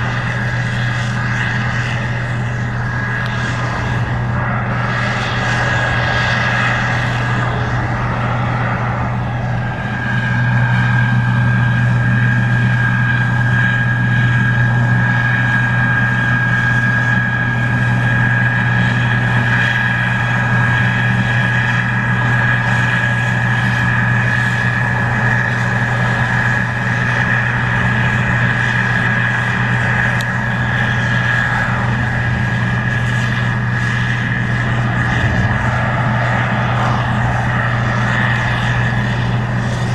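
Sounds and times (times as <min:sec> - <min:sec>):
combine harvester engine drone: 0:00.0 - 0:39.9
high whine: 0:00.0 - 0:39.9.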